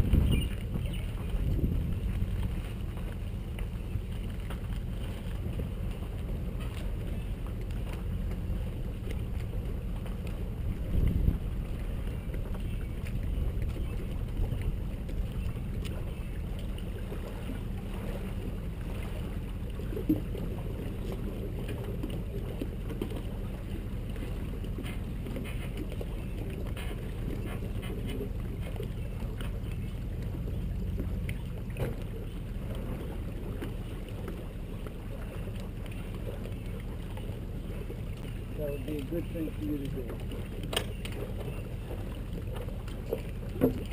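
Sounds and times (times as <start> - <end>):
vehicle engine low hum: 0.0 - 43.9.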